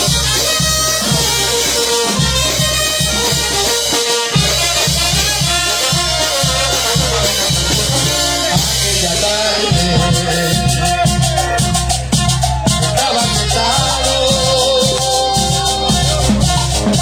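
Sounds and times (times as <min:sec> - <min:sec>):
band music with drums and shakers: 0:00.0 - 0:17.0.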